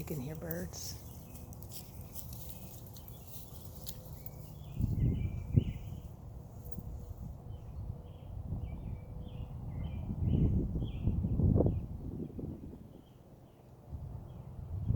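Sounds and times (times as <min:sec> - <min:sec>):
birds chirping: 0:00.0 - 0:14.5
distant road traffic: 0:00.0 - 0:14.9.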